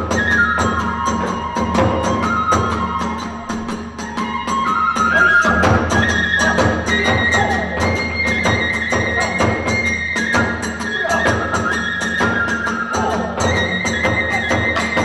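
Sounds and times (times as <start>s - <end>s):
bamboo flute high notes: 0.0s - 15.0s
drum strokes: 0.0s - 15.0s.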